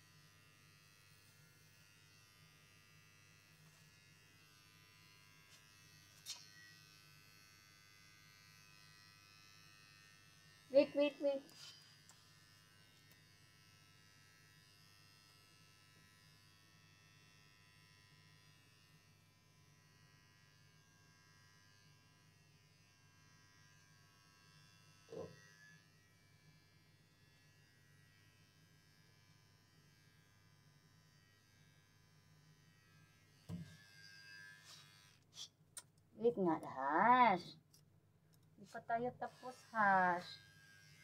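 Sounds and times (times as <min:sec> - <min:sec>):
electric hair clippers buzzing: 0:00.0 - 0:35.3, 0:38.7 - 0:41.0.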